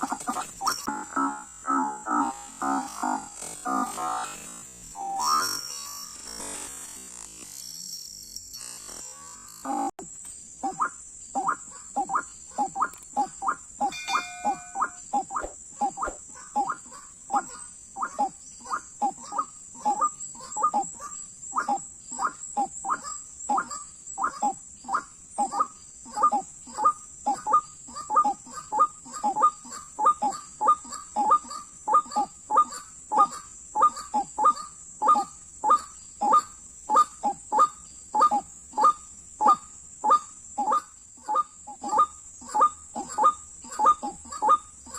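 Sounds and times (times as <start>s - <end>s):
waterhen croaking calls: 0.0s - 5.6s, 10.6s - 44.9s.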